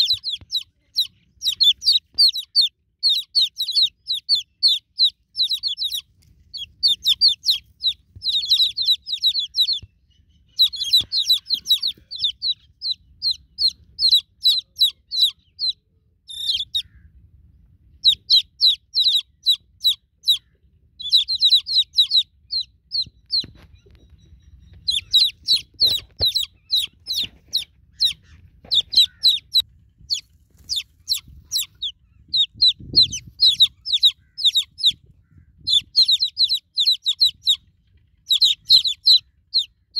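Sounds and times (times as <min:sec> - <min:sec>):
chicks peeping: 0:00.0 - 0:16.9, 0:17.9 - 0:39.9.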